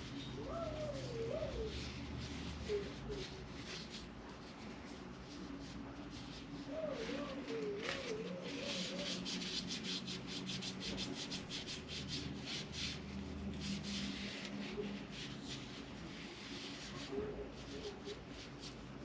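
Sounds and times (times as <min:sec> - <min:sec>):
rhythmic scraping strokes by hand: 0:00.0 - 0:19.0.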